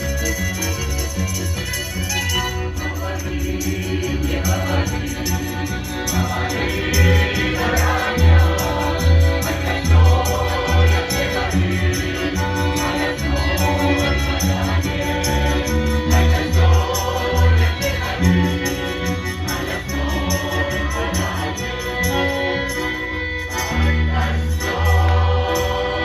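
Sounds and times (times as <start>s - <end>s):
light percussion: 0.0s - 22.9s
instrumental accompaniment with bass beat: 0.0s - 26.0s
folk choir singing: 2.7s - 26.0s.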